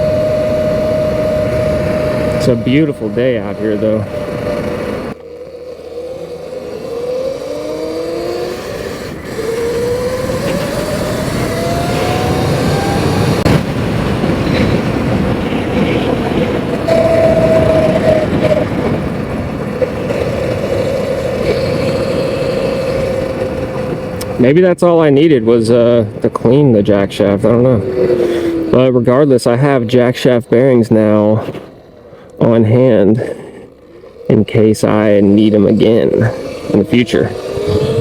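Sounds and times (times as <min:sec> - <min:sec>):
electric dirt bike motor whine: 0:00.0 - 0:24.7, 0:26.2 - 0:38.0
tyre noise: 0:00.0 - 0:38.0
wind: 0:00.0 - 0:38.0.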